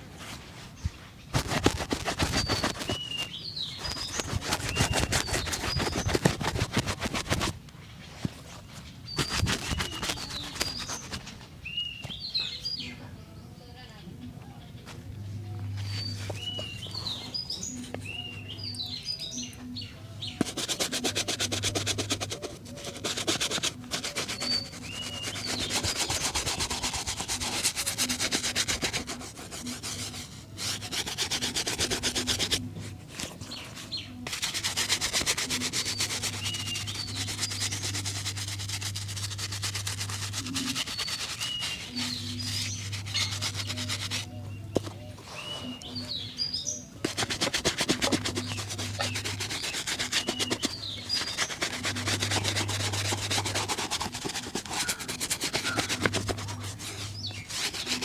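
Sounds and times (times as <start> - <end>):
shoe being rubbed: 0.1 - 7.6, 8.2 - 11.4, 15.7 - 18.9, 20.2 - 46.1, 47.0 - 58.0
birds chirping: 0.7 - 58.0.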